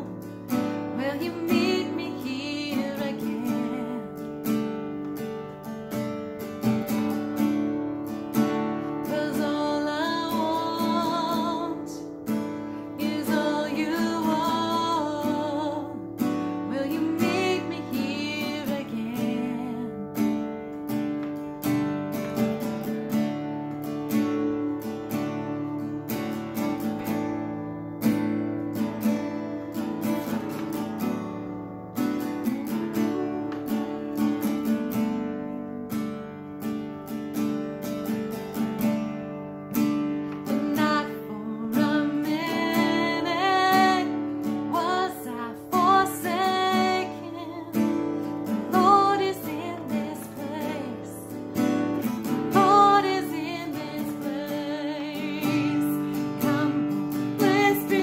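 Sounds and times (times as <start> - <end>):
woman singing: 0.0 - 5.1, 6.9 - 21.9, 28.2 - 36.8, 40.2 - 58.0
acoustic guitar strumming: 0.0 - 58.0.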